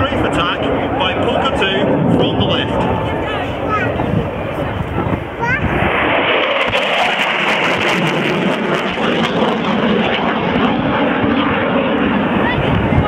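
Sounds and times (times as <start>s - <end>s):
jet flying by: 0.0s - 13.0s.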